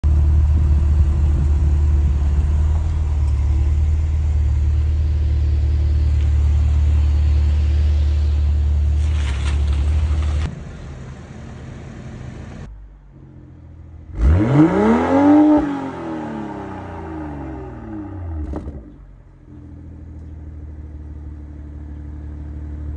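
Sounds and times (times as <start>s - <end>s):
car exhaust idling: 0.0s - 14.6s, 15.8s - 22.9s
car engine revving: 0.0s - 20.3s.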